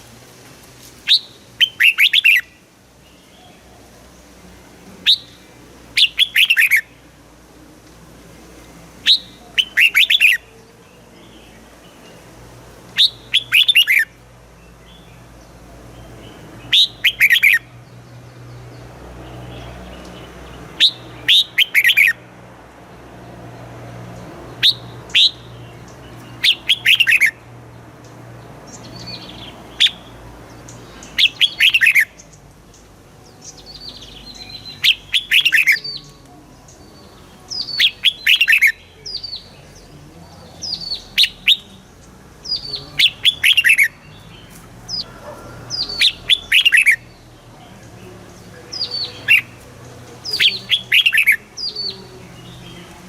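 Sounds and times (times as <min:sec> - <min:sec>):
bird singing bright phrases: 0:00.8 - 0:53.0.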